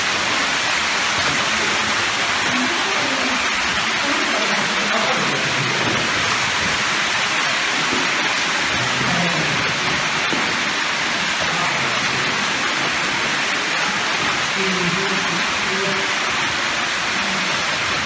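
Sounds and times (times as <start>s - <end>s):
running water in a cave: 0.0s - 18.0s.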